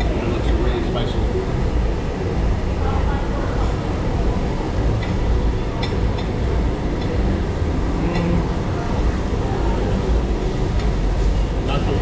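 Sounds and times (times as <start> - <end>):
exhaust vent rumbling: 0.0 - 12.0.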